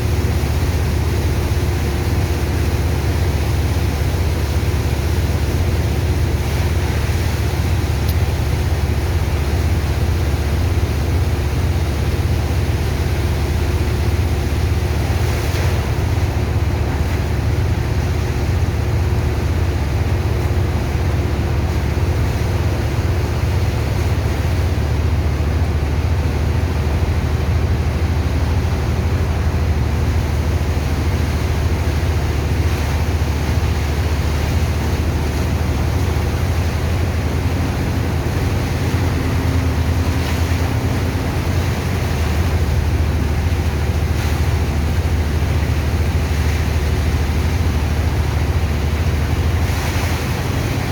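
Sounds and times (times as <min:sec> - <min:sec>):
pump engine drone: 0:00.0 - 0:50.9
rushing water noise: 0:00.0 - 0:50.9.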